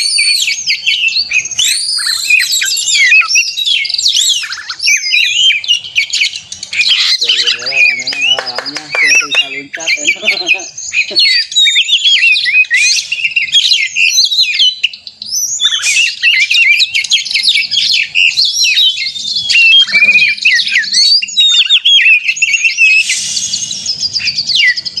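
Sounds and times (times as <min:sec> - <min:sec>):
magpie-robin singing: 0:00.0 - 0:25.0.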